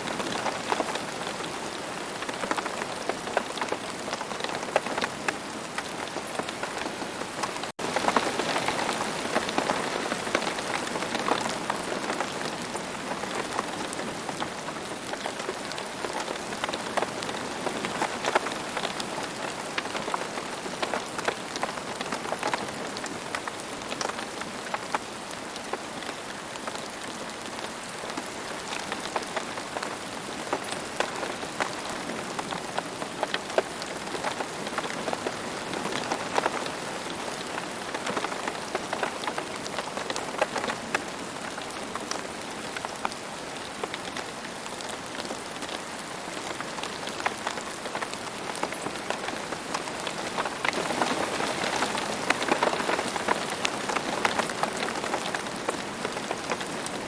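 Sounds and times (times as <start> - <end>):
raindrops pattering on a surface: 0.0 - 57.0
steady rain hissing: 0.0 - 57.0.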